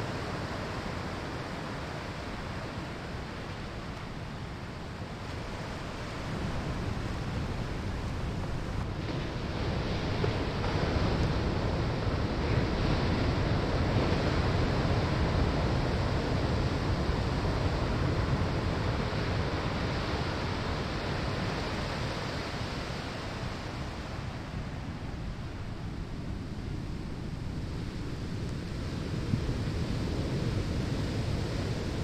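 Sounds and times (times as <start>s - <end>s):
ocean surf breaking on sand: 0.0s - 32.0s.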